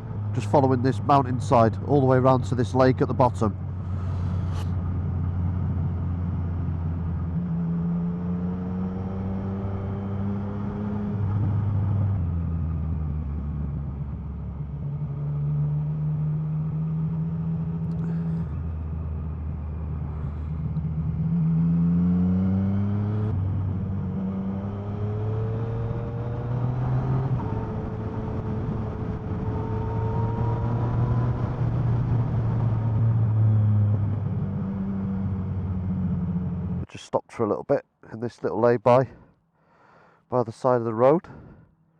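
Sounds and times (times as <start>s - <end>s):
motorcycle engine revving: 0.0s - 36.8s.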